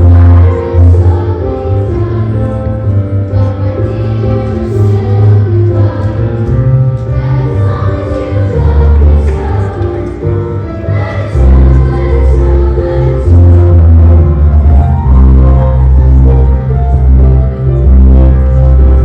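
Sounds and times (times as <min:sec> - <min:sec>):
choir singing: 0:00.0 - 0:18.6.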